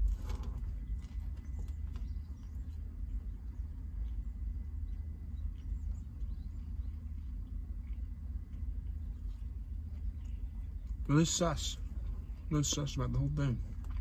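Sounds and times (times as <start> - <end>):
person chewing food: 0.0 - 12.5
low rumble inside car cabin: 0.0 - 14.0.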